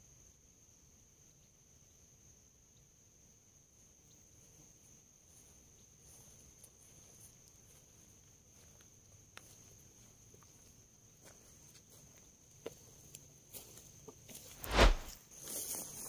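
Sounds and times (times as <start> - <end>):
faint insects chirring: 0.0 - 16.0.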